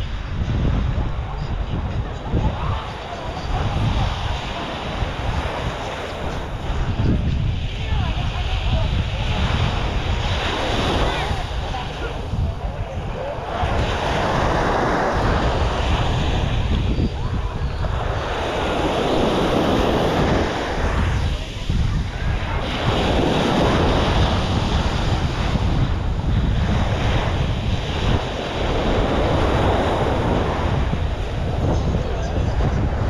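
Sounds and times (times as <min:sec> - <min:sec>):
small waves breaking on sand: 0:00.0 - 0:33.0
wind buffeting microphone: 0:00.0 - 0:33.0.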